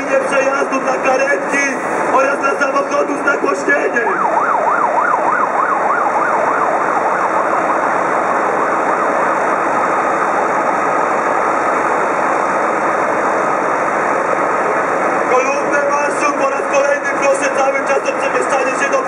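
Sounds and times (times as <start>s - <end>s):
steady background noise: 0.0s - 19.0s
emergency siren wailing: 1.9s - 19.0s.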